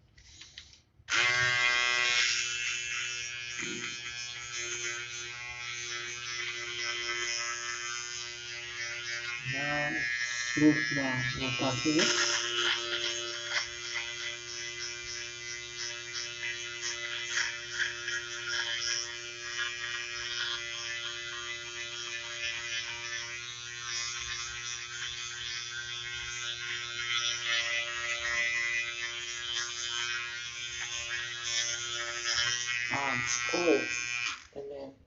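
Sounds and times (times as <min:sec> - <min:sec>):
electric trimmer humming: 0:00.0 - 0:35.0.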